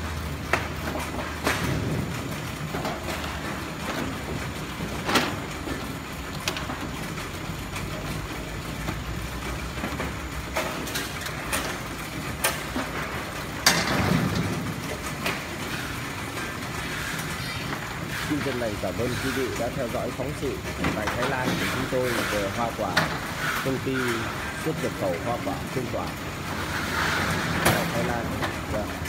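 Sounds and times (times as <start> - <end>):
hum of fans and machinery: 0.0 - 29.0.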